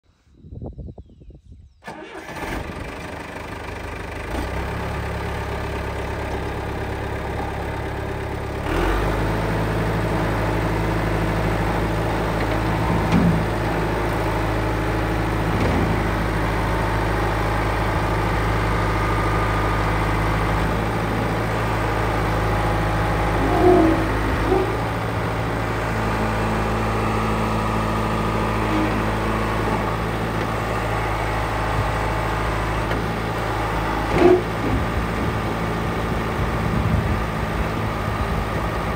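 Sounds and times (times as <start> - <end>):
tractor diesel engine running: 1.8 - 38.9.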